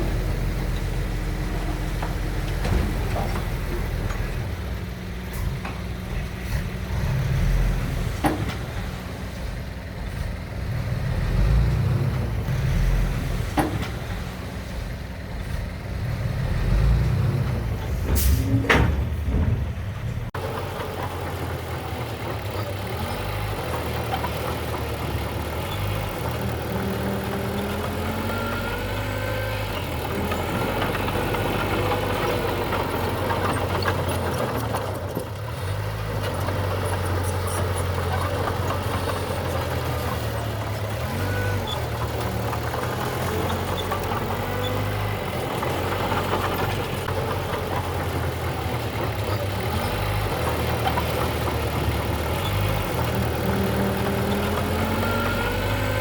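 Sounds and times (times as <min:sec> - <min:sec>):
diesel engine surging under load: 0:00.0 - 0:56.0.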